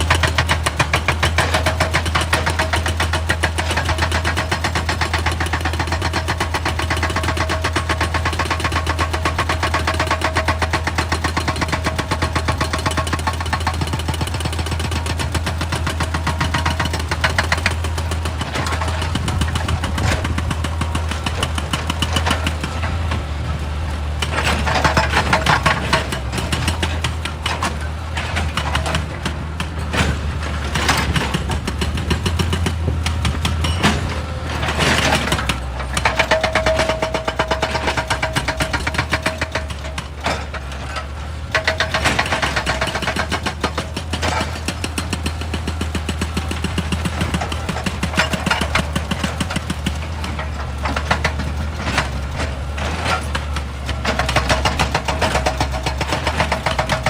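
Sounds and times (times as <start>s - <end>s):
excavator diesel engine clattering: 0.0s - 57.0s.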